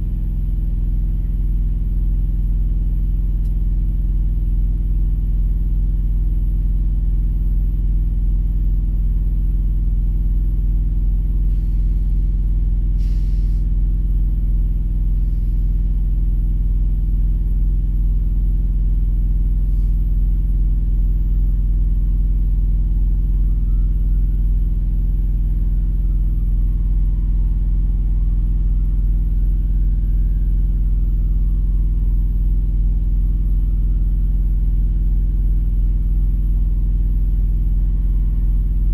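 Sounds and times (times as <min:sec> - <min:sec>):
engine idling: 0:00.0 - 0:07.9, 0:09.4 - 0:38.9.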